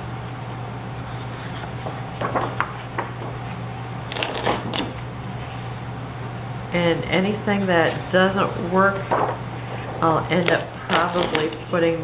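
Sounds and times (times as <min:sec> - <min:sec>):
steady low hum: 0:00.0 - 0:12.0
paper rustling: 0:00.2 - 0:06.5, 0:07.6 - 0:11.6.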